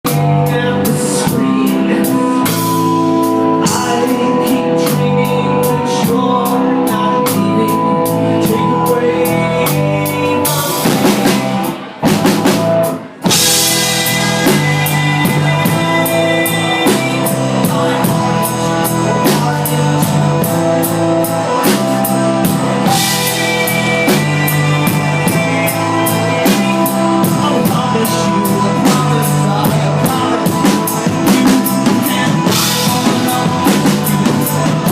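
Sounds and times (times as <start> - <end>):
loud live rock band: 0.0 - 34.9.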